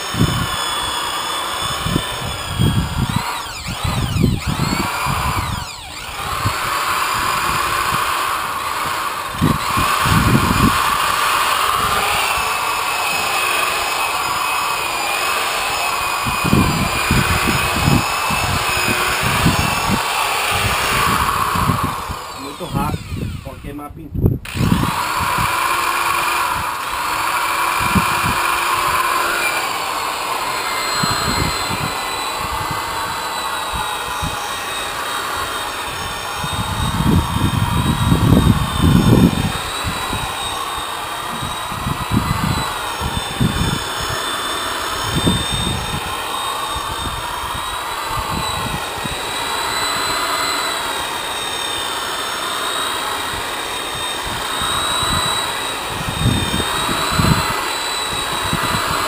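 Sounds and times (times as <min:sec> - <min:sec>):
polisher motor whine: 0:00.0 - 0:23.8, 0:24.4 - 0:59.0.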